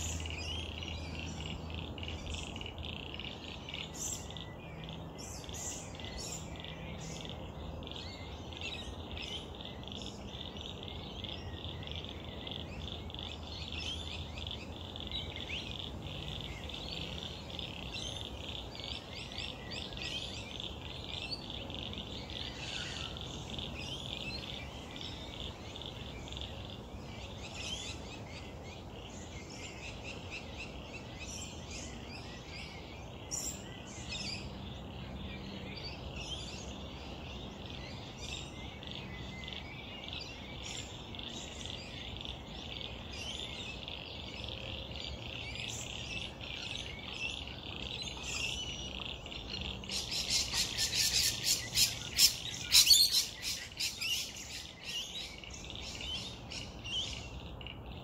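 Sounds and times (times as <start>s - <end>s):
rapid repeated bird calls: 0.0s - 58.0s
wild birds chirping: 0.0s - 58.0s.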